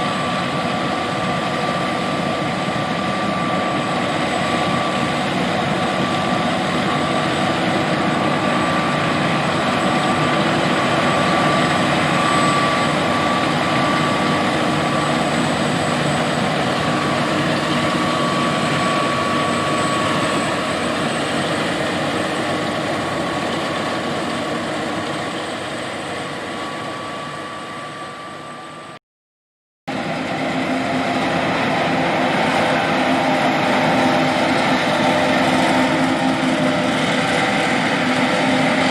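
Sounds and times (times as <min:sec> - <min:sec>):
combine harvester running: 0:00.0 - 0:29.0, 0:29.9 - 0:38.9.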